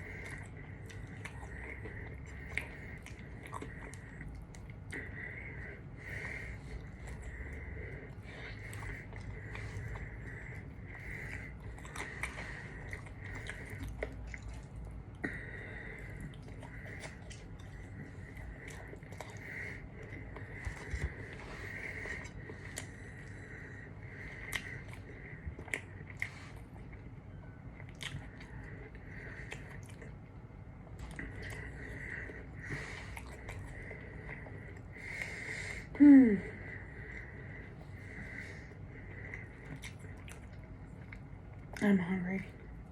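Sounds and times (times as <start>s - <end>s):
chewing and biting food: 0.0s - 36.0s, 36.6s - 41.9s.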